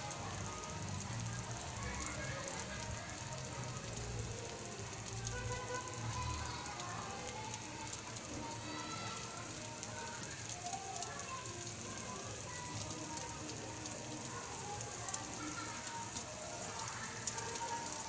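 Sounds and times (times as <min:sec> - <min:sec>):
eggs sizzling in oil: 0:00.0 - 0:18.0.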